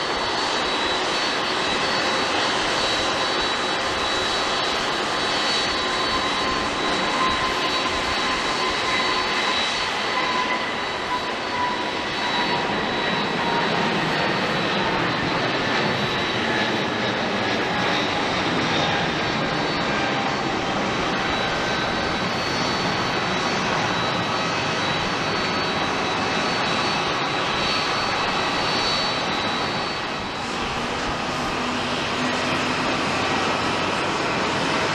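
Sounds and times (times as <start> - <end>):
jet engines running with whine: 0.0 - 34.9.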